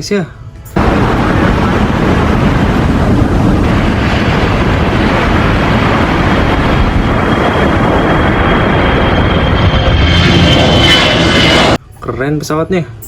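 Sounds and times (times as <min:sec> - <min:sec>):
airplane engine roar: 0:00.3 - 0:12.1.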